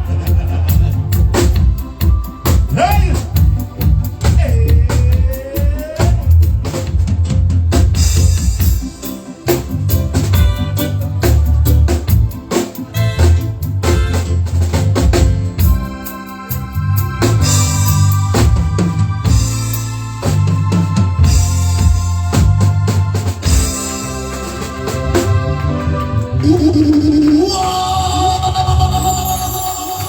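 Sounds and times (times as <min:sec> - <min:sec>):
bass line: 0:00.0 - 0:30.0
drum kit with bass drum: 0:00.0 - 0:30.0
organ chords: 0:00.0 - 0:30.0.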